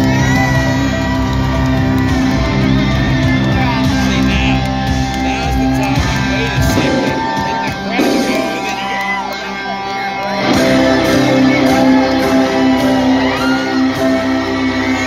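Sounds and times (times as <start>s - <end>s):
audience whooping and shouting: 0.0s - 15.0s
live band music: 0.0s - 15.0s.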